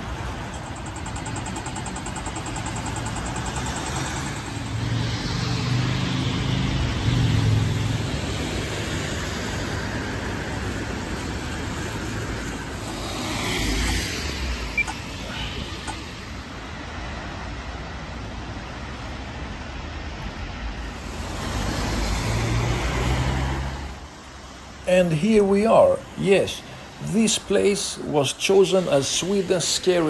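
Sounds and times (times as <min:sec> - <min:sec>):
cars passing on wet road: 0:00.0 - 0:30.0.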